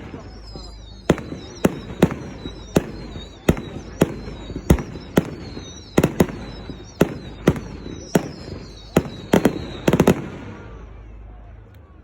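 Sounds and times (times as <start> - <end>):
faint high wavering whistle: 0.0 - 10.2
fireworks bangs: 0.0 - 10.9.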